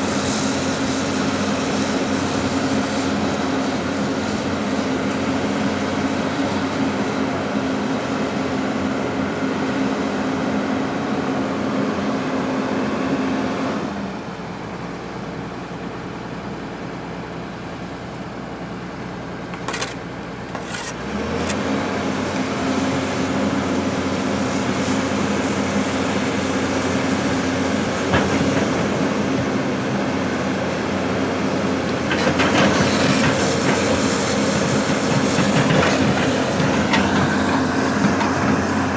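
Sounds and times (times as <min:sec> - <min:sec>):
diesel engine of heavy machinery: 0:00.0 - 0:38.9.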